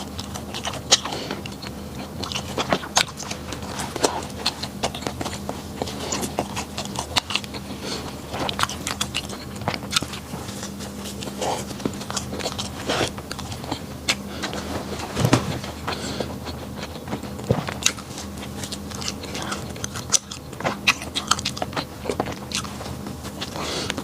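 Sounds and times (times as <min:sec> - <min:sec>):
faint low hum: 0:00.0 - 0:24.0
person chewing bread: 0:00.0 - 0:24.0.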